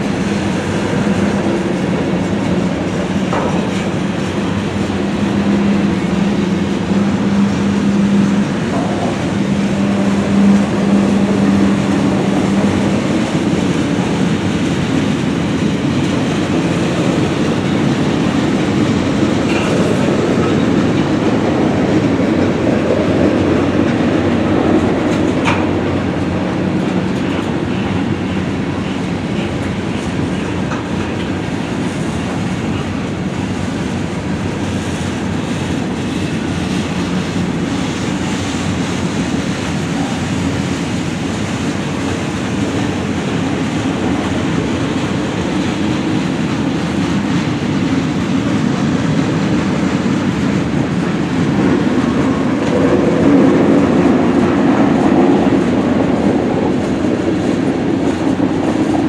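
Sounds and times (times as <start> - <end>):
train wheels clacking over rails: 0.0 - 59.0.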